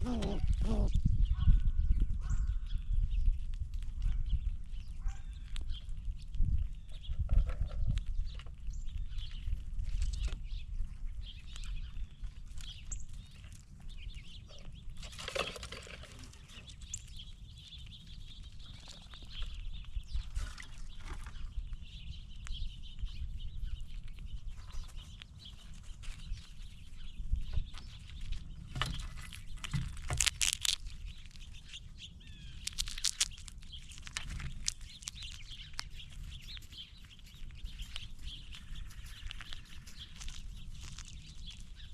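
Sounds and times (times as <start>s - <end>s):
birds calling and chirping: 0.0s - 41.9s.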